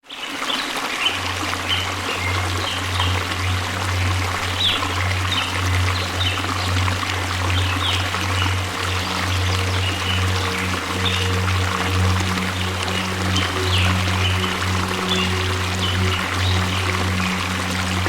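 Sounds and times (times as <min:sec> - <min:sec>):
waterfall rushing: 0:00.2 - 0:18.0
low steady hum: 0:01.2 - 0:18.0.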